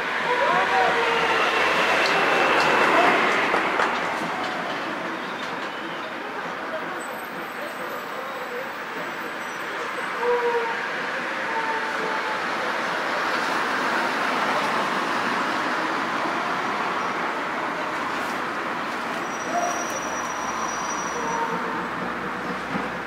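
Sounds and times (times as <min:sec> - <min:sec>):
rushing street din: 0:00.0 - 0:23.0.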